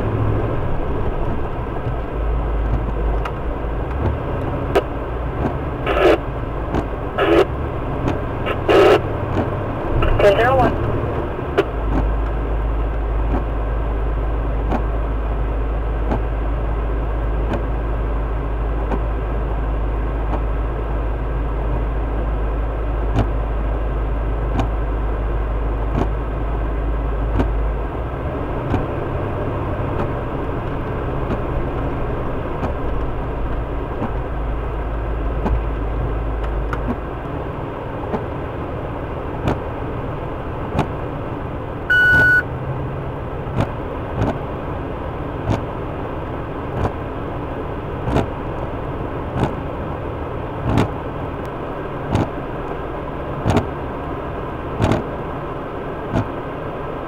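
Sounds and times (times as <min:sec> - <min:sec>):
deep rumble: 0:00.0 - 0:56.4
vehicle engine running: 0:00.0 - 0:57.0.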